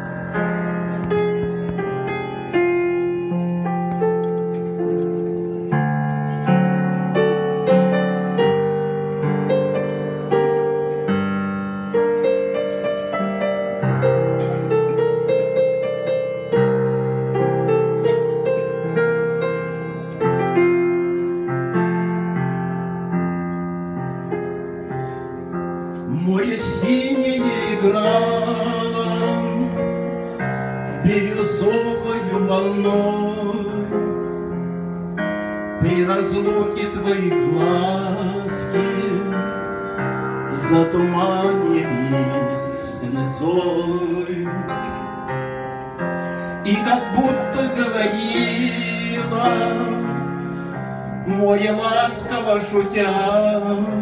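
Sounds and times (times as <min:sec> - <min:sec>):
solo piano playing: 0:00.0 - 0:54.0.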